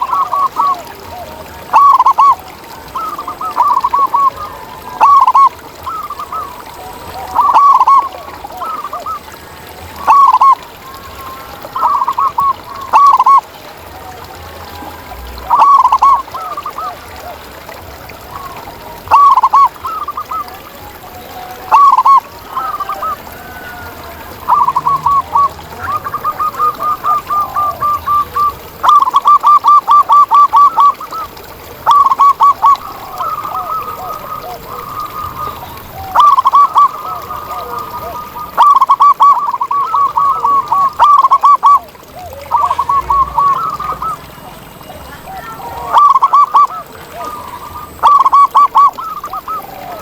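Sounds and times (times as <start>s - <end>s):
doves cooing: 0.0s - 50.0s
faint lower coos: 0.0s - 50.0s.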